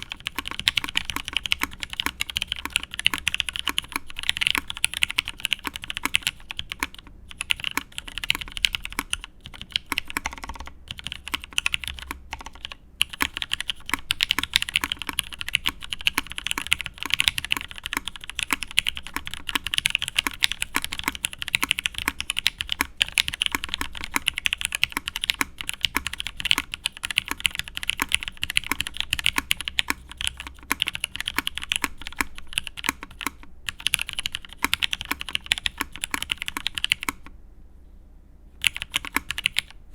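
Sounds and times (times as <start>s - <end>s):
fast typing on mechanical keyboard: 0.0s - 37.3s, 38.6s - 39.8s.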